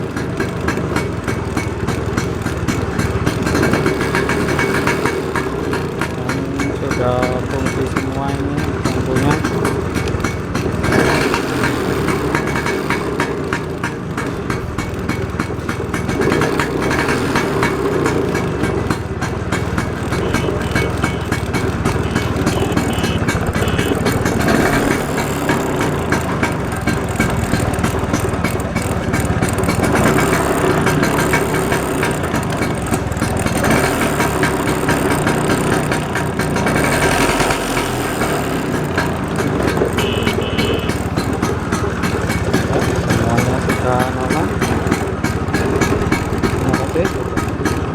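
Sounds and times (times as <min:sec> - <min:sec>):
scooter engine idling: 0:00.0 - 0:47.9.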